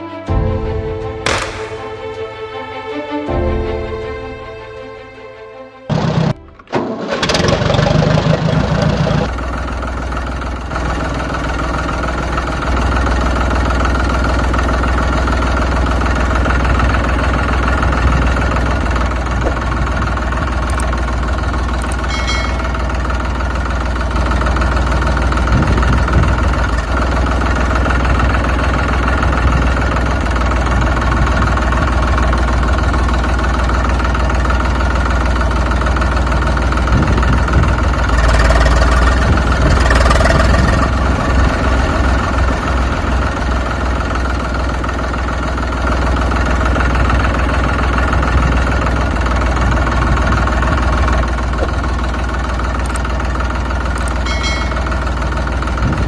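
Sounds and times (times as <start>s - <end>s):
engine idling with deep rumble: 5.9s - 56.0s.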